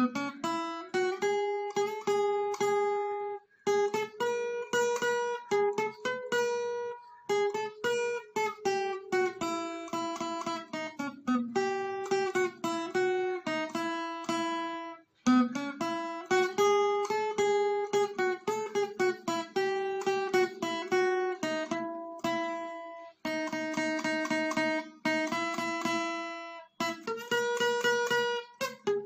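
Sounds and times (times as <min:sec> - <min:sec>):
acoustic guitar plucked melody: 0:00.0 - 0:29.0.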